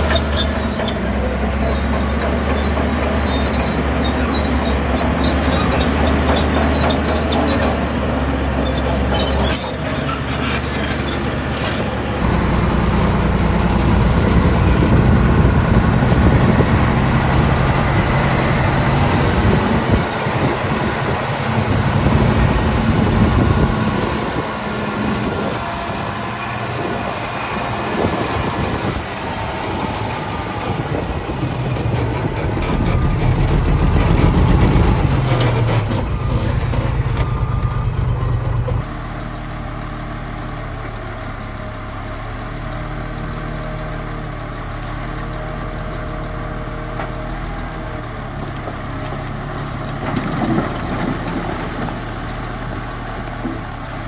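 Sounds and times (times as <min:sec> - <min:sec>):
diesel construction machinery engine: 0:00.0 - 0:54.0.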